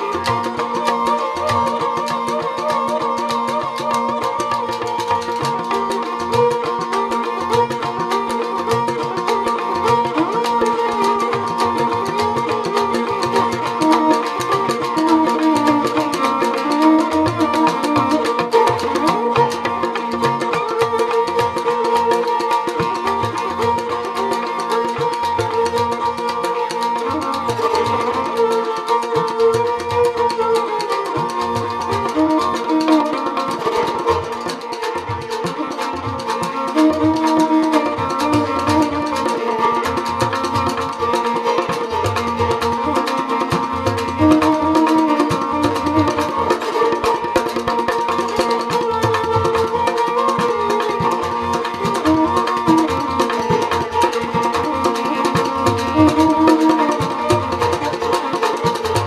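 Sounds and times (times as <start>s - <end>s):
bowed string melody: 0.0s - 59.0s.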